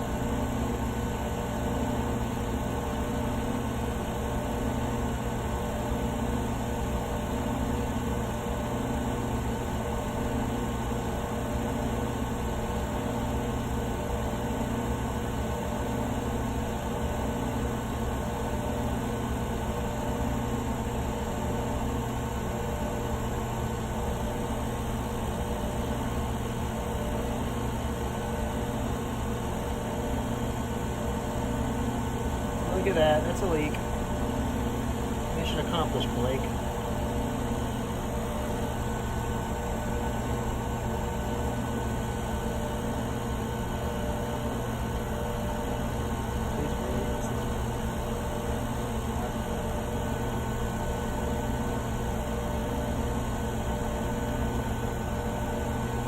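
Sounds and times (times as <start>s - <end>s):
vacuum pump humming and hissing: 0.0s - 56.0s.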